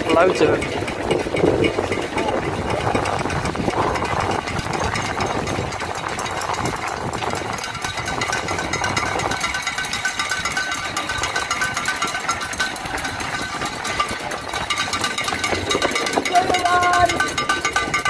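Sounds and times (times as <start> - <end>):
runners' footsteps on road: 0.0 - 18.0.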